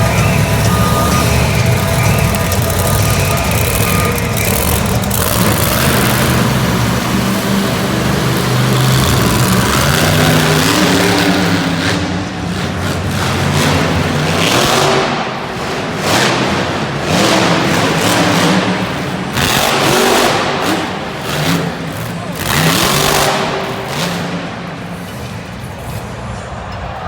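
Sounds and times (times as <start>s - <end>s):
monster truck engine revving: 0.0s - 27.0s.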